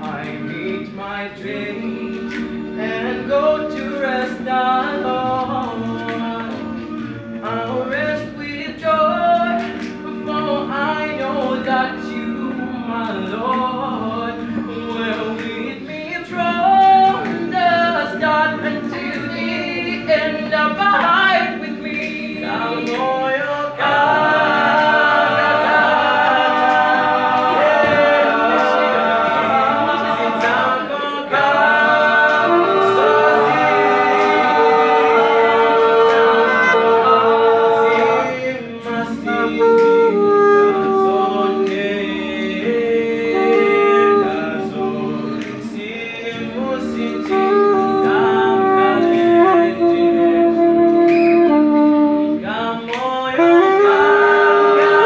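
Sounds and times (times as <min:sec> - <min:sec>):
male a cappella group singing: 0:00.0 - 0:55.0.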